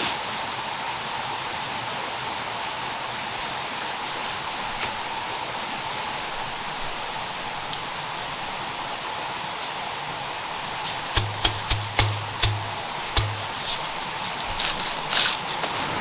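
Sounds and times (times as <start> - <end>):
forest background hiss: 0.0 - 16.0.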